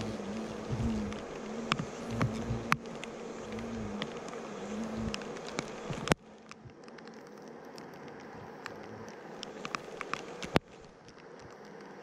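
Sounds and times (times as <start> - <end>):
hornets buzzing: 0.0 - 10.8
sharp ticks: 0.0 - 12.0
steady hiss: 0.0 - 12.0.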